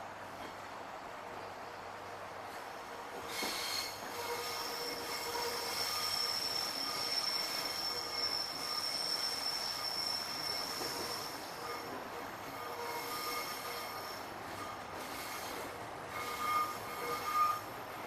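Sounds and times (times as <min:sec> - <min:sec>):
train running on rails: 0:00.0 - 0:18.0
high-pitched wheel squeal: 0:03.3 - 0:18.0.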